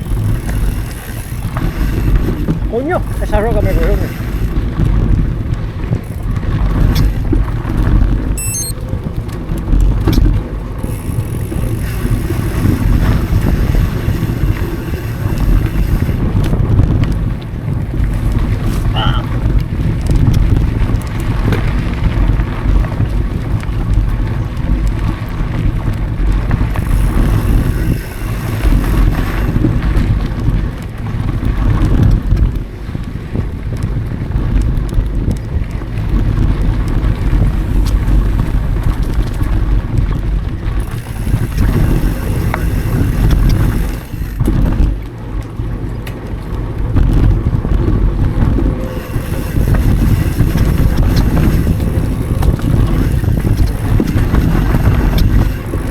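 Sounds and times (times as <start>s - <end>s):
bike clicks and rattles: 0.0s - 55.9s
bike tyre noise: 0.0s - 55.9s
wind buffeting microphone: 0.0s - 55.9s.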